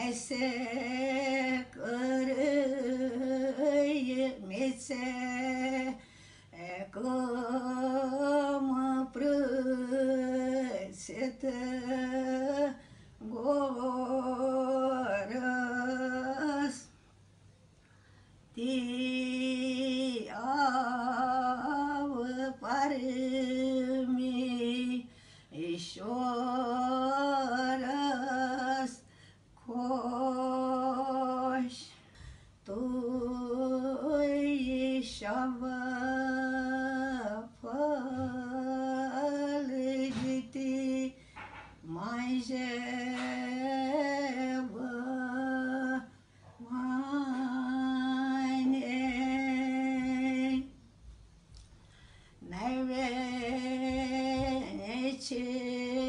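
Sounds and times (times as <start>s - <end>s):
woman singing unaccompanied: 0.0s - 17.0s, 18.5s - 32.0s, 32.6s - 50.8s, 52.4s - 56.0s.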